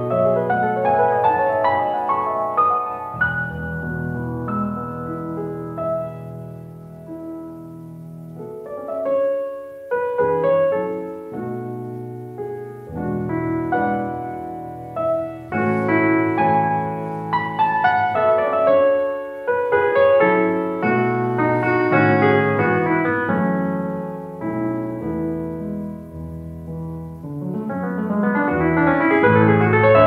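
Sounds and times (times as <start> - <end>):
gentle piano melody: 0.0 - 30.0.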